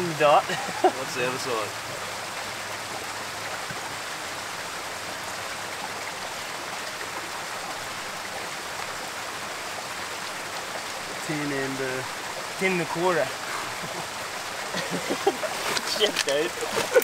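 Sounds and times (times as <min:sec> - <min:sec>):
mountain creek rushing: 0:00.0 - 0:17.0.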